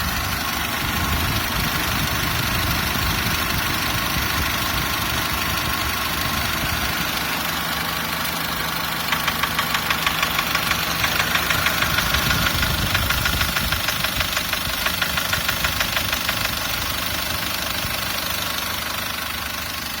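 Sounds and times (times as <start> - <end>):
diesel engine running: 0.0 - 20.0
rhythmic engine knock: 0.0 - 20.0.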